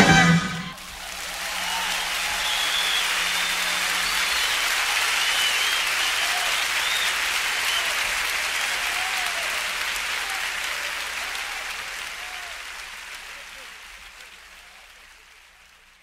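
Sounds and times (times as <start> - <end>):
audience applauding: 0.0 - 16.0
audience cheering: 0.0 - 16.0.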